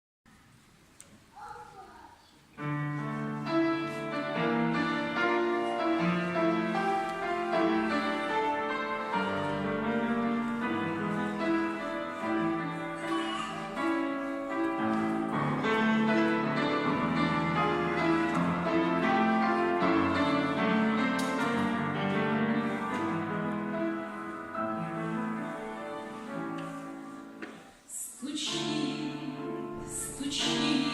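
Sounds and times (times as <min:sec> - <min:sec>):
piano playing chords and melody: 0:02.6 - 0:30.9.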